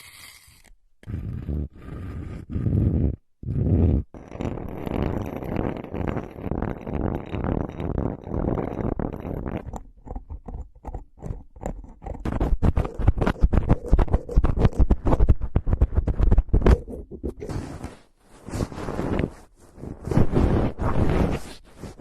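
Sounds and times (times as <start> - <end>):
rustling scratch: 0.0 - 22.0.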